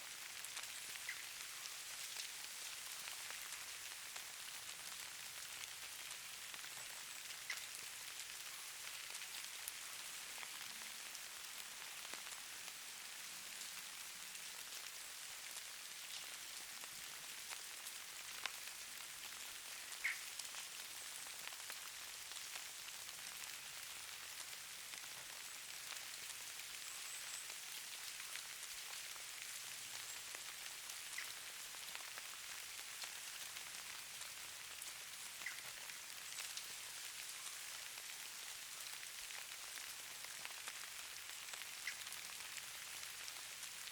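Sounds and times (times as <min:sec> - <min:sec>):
patter of falling precipitation: 0:00.0 - 0:43.9.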